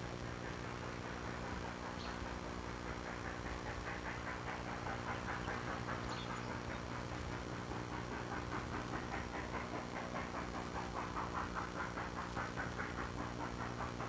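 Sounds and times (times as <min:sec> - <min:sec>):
steady low hum: 0:00.0 - 0:14.0
steam train chugging: 0:00.0 - 0:14.0.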